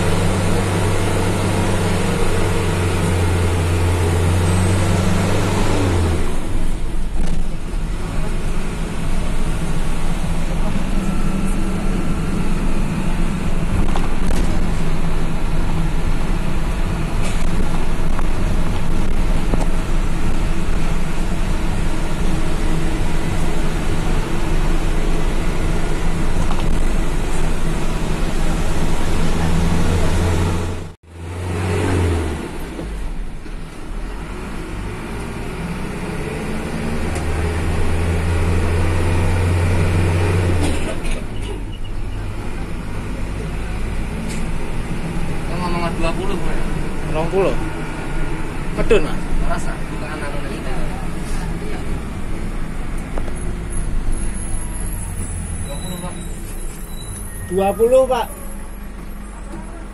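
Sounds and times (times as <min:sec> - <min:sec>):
bus engine drone: 0:00.0 - 0:59.9
road and traffic noise: 0:00.0 - 0:59.9.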